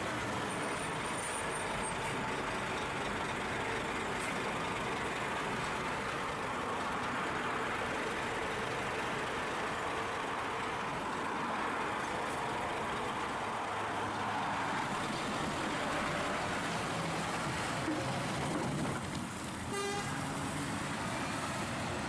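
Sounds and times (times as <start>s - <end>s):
truck diesel engine at low revs: 0.0s - 22.0s.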